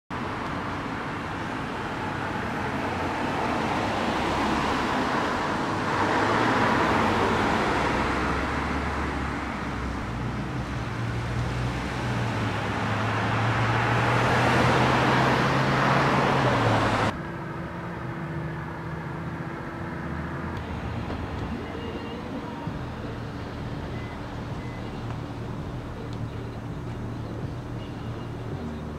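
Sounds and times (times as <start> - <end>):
cars passing: 0.1 - 28.9.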